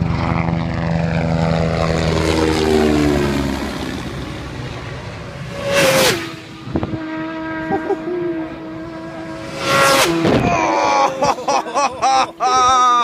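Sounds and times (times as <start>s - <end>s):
racing motorcycle passing: 0.0s - 12.2s.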